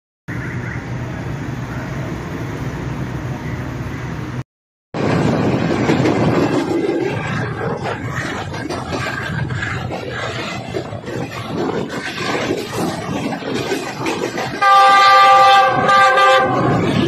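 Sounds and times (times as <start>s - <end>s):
passenger train running: 0.3s - 4.4s, 5.0s - 17.0s
wheel and rail noise: 0.3s - 4.4s, 5.0s - 17.0s.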